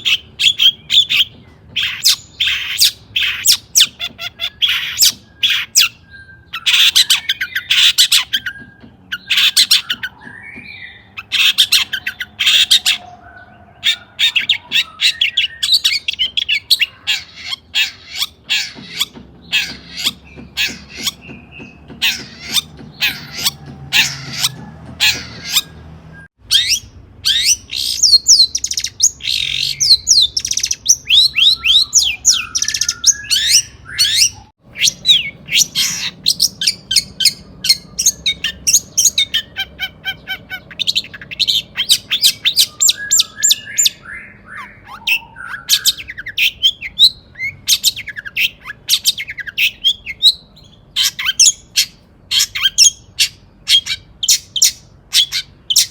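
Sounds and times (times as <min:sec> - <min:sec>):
bird singing harsh scratchy notes: 0:00.0 - 0:55.9.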